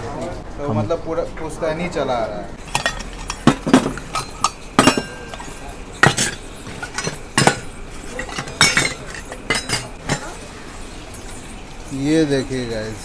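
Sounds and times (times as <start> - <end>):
metal bowls clinking: 2.6 - 13.0.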